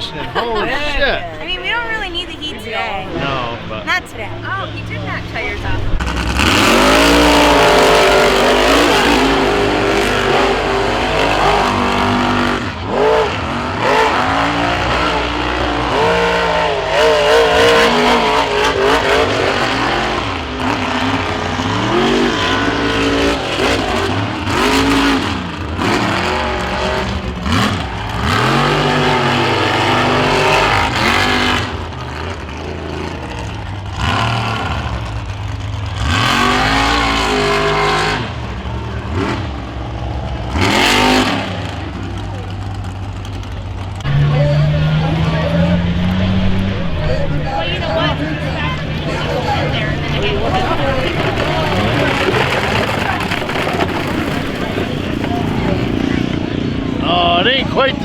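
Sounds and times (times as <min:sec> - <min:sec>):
vehicle engine revving hard: 0:00.0 - 0:58.0.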